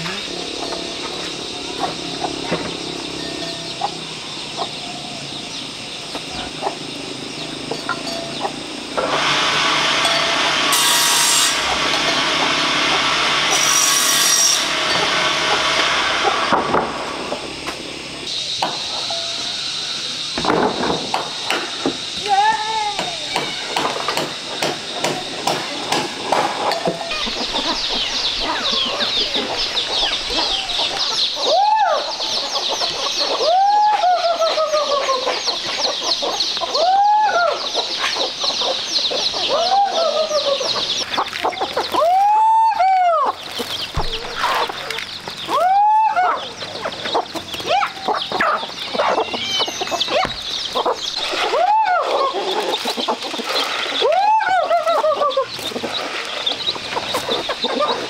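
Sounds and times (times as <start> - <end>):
rising and falling bird calls: 0.0 - 10.7, 14.6 - 58.0
chickens clucking: 0.0 - 10.8, 11.5 - 14.0, 14.7 - 58.0
high-pitched chirring chorus: 0.0 - 58.0.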